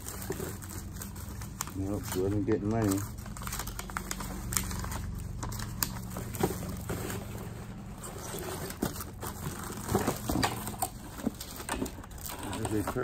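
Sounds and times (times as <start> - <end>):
plastic bags and paper rustling: 0.0 - 13.0.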